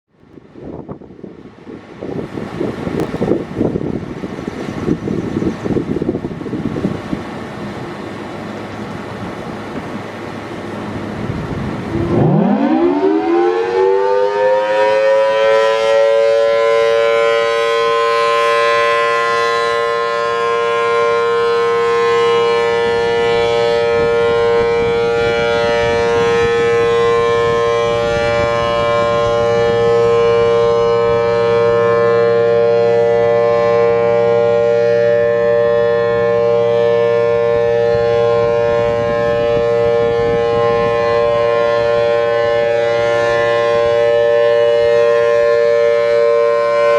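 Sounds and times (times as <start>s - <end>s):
civil-defense siren steady tone: 0.1s - 46.9s.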